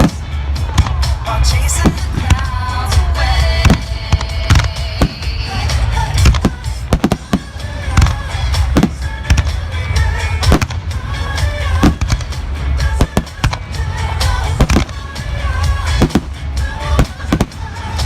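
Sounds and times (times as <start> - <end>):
music playing: 0.0 - 18.0
fireworks bangs: 3.4 - 18.0.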